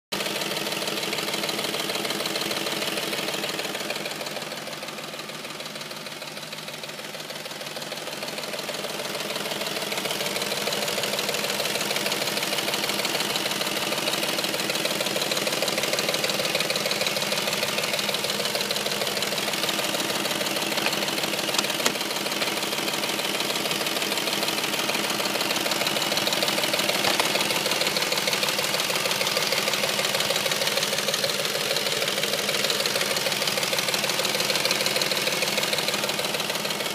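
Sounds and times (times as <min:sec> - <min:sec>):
car engine idling: 0:00.2 - 0:36.9
fast ticking engine knock: 0:00.2 - 0:36.9.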